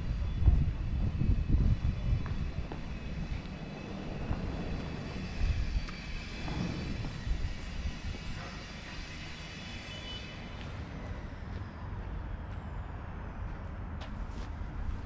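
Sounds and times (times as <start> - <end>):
high steady whine: 0.0 - 13.4
street traffic rumble: 0.0 - 15.0.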